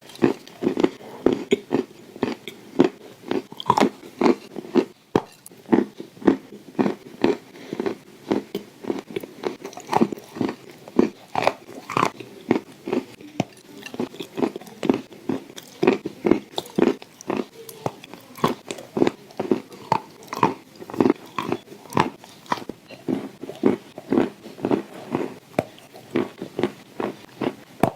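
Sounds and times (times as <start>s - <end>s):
crunchy chewing: 0.0s - 27.9s.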